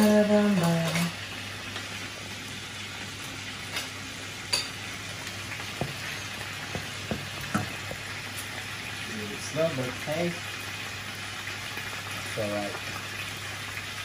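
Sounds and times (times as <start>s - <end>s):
garlic sizzling in oil: 0.0s - 14.0s.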